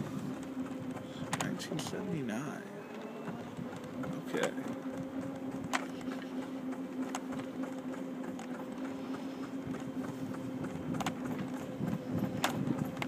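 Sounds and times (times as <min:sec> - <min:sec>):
scooter motor humming: 0:00.0 - 0:13.0
wheels rumbling on path: 0:00.0 - 0:13.0.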